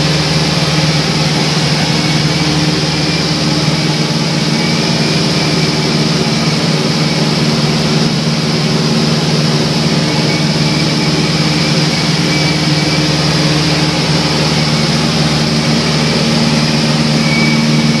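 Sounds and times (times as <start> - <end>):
airplane engine drone from cabin: 0.0 - 18.0.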